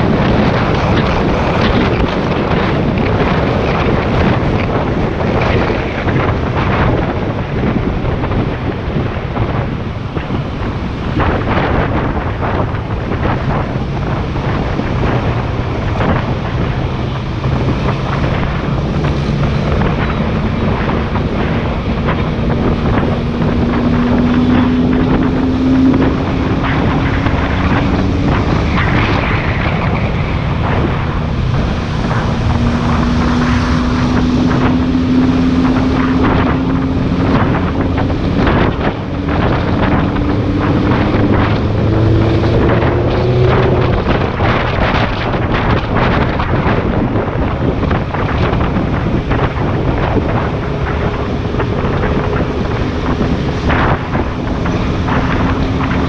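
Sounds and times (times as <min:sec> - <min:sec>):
sports car engine revving: 0:00.0 - 0:56.0
wind noise on microphone: 0:00.0 - 0:56.0.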